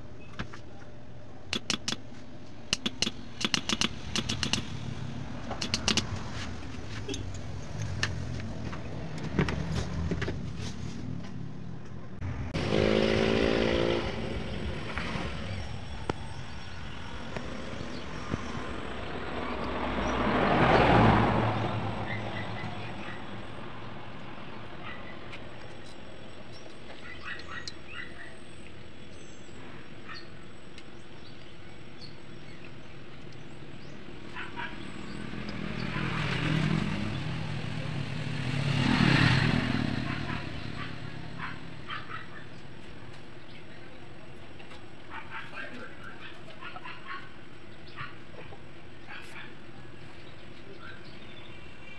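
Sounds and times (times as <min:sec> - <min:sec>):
motor vehicles passing: 0:00.0 - 0:51.9.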